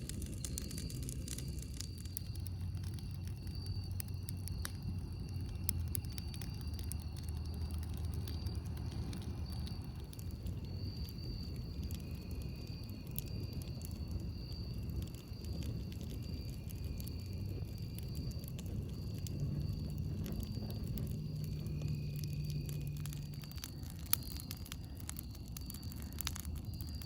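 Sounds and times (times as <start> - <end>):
campfire crackling and popping: 0.0 - 27.0
low rumble: 0.0 - 27.0.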